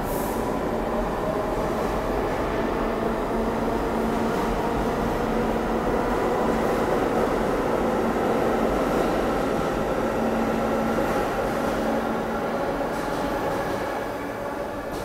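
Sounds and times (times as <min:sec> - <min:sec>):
subway train rumbling past: 0:00.0 - 0:15.0.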